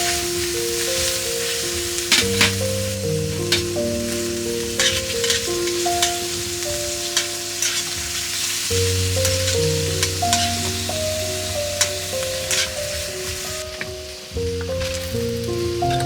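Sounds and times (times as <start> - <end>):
background music: 0.0 - 16.0
food sizzling in a pan: 0.0 - 16.0.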